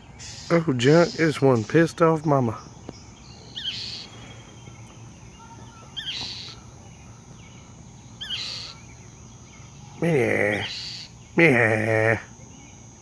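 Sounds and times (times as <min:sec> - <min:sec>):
bird harsh scolding calls: 0:00.0 - 0:12.1.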